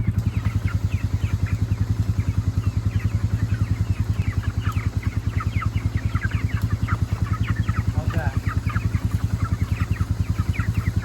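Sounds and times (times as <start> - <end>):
chickens cheeping: 0.0 - 11.0
small engine thumping: 0.0 - 11.0.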